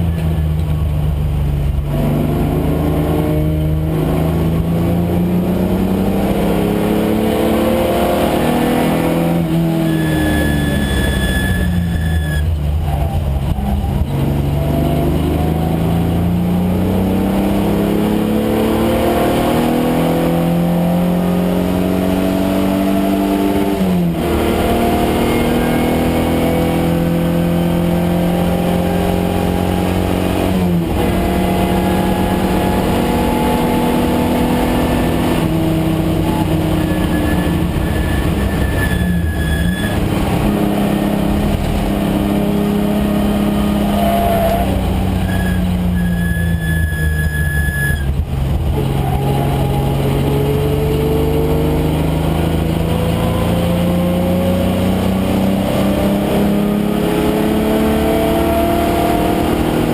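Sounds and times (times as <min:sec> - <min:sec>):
car engine pulling under load: 0:00.0 - 0:59.9.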